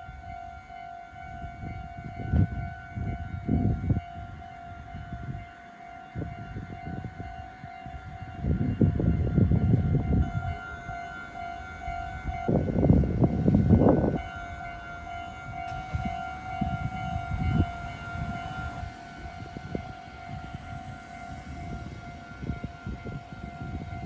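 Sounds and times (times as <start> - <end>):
level-crossing warning bell: 0.0 - 24.0
train rumbling and clattering past: 0.0 - 24.0.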